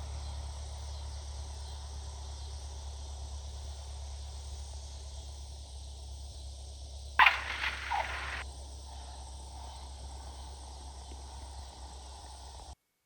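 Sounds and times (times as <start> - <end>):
cockpit hiss: 0.0 - 12.8
small plane engine idling: 0.0 - 12.8.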